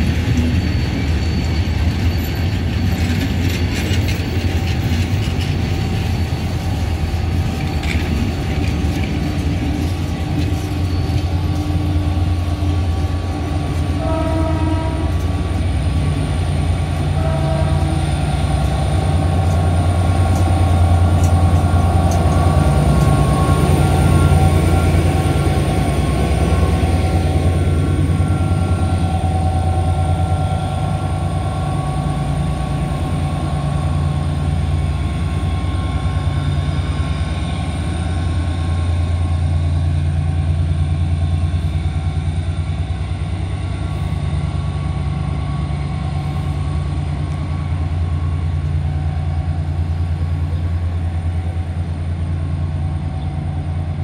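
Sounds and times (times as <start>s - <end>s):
diesel locomotive engine humming: 0.0s - 54.0s.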